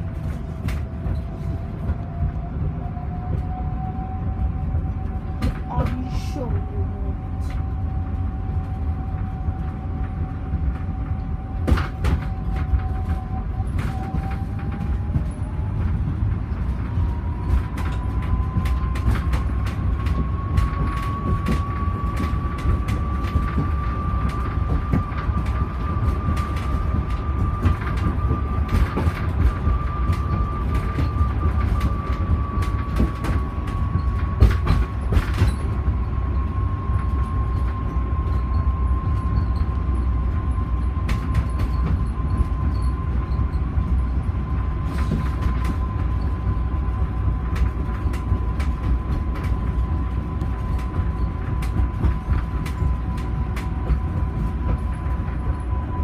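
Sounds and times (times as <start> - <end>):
transit pod rumbling: 0.0 - 56.0
knocks and rattles: 10.0 - 56.0.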